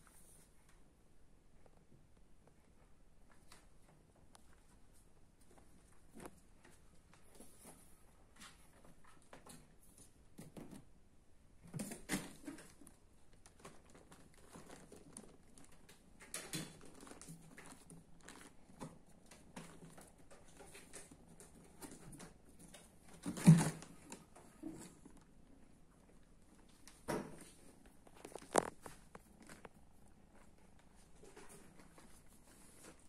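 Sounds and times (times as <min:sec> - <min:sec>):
kittens scratching and rustling: 0:02.4 - 0:10.9, 0:11.6 - 0:33.0.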